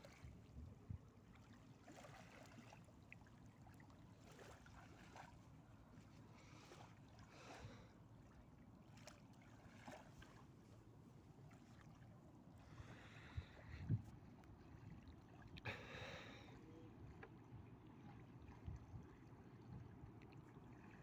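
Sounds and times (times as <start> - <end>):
river water lapping: 0.0 - 21.0.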